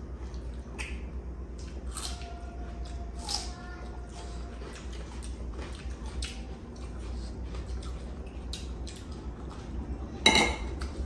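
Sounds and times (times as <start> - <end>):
steady low hum: 0.0 - 11.0
chewing: 0.2 - 11.0.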